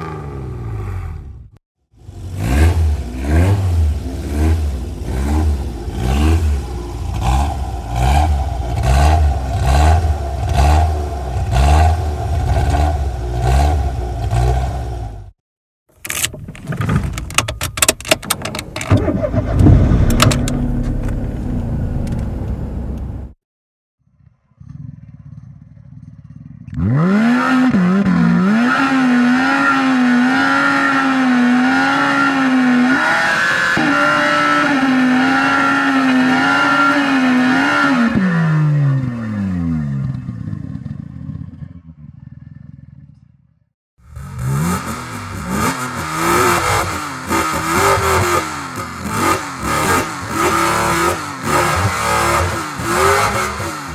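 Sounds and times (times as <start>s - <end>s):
car engine revving: 0.0s - 15.3s, 19.0s - 23.4s, 24.6s - 39.2s, 44.0s - 53.9s.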